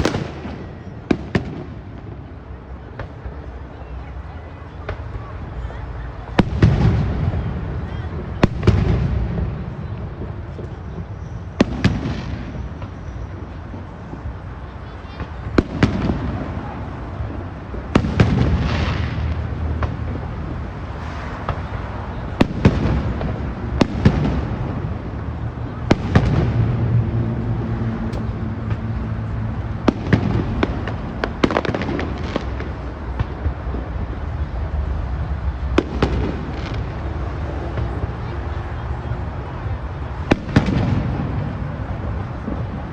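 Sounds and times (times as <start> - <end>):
fireworks bangs: 0.0 - 42.9
rolling rumble: 0.0 - 42.9.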